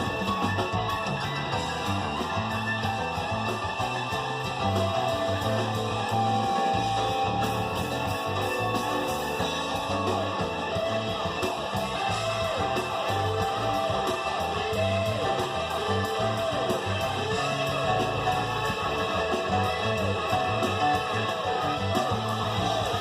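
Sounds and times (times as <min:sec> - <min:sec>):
guitar-led music with bass line: 0:00.0 - 0:23.0.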